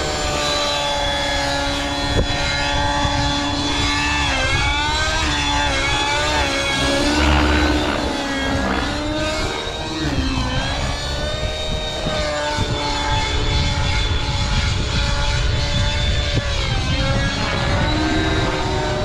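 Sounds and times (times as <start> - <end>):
model helicopter engine: 0.0 - 19.0.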